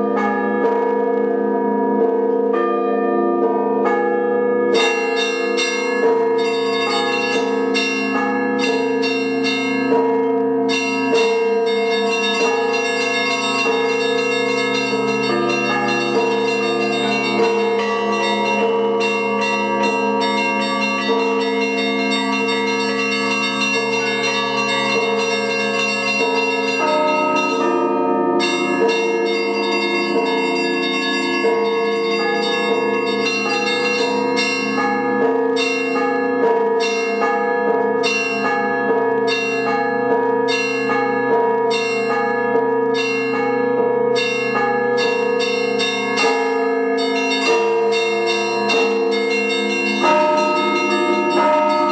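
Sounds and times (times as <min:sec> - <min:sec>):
deep bells humming: 0:00.0 - 0:51.9
small high bells struck: 0:00.0 - 0:51.9.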